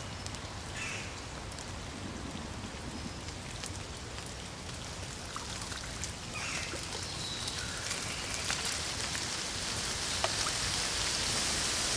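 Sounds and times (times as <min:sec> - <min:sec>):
raindrops ticking close by: 0:00.0 - 0:11.9
steady rain falling: 0:00.0 - 0:11.9.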